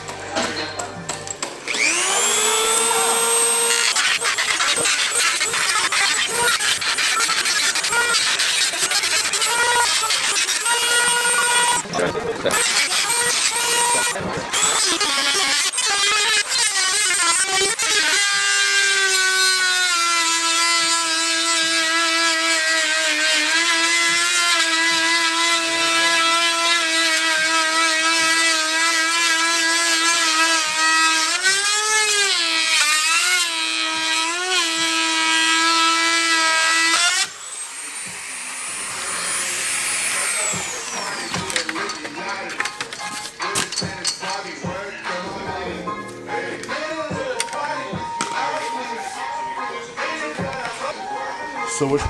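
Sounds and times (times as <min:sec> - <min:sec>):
rotary tool whining: 0:01.3 - 0:45.2.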